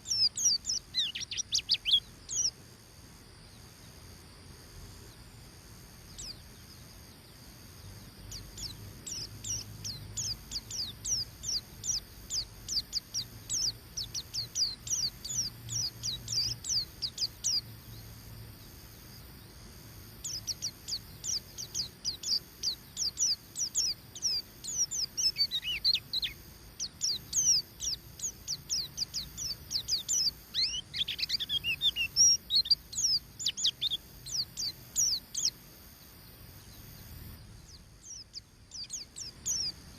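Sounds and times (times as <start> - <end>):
bird high chirps: 0.0 - 2.6, 6.1 - 6.9, 8.2 - 18.1, 20.2 - 39.9.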